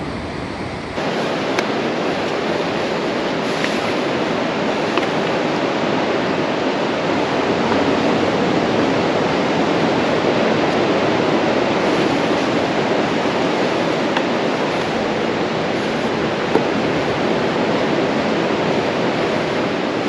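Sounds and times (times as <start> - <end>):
surf waves breaking on beach: 0.0 - 20.0.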